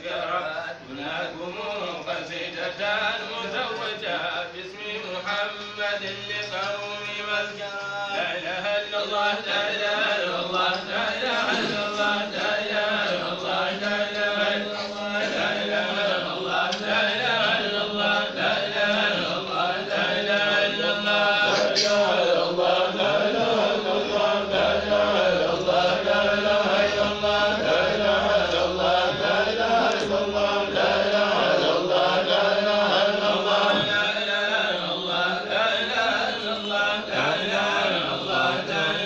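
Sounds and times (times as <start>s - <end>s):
men chanting devotional recitation: 0.0s - 39.0s.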